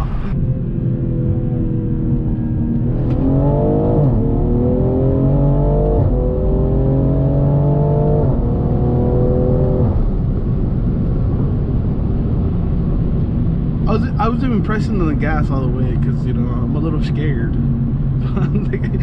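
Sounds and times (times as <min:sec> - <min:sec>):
car engine accelerating: 0:00.0 - 0:19.0
road noise: 0:00.0 - 0:19.0.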